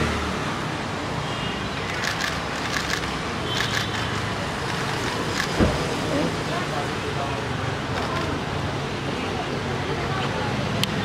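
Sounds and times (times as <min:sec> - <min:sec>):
road traffic hiss: 0:00.0 - 0:11.0.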